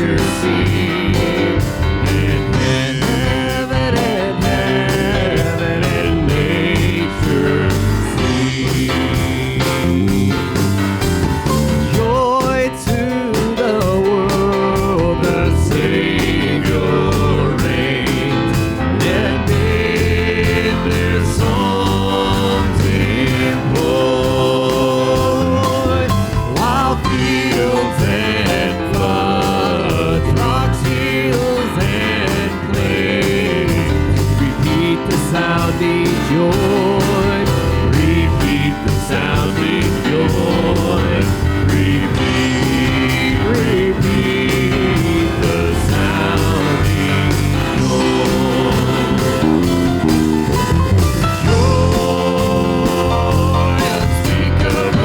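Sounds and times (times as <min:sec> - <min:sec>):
guitar: 0:00.0 - 0:55.0
steady drum beat: 0:00.0 - 0:55.0
worship band playing country song: 0:00.0 - 0:55.0.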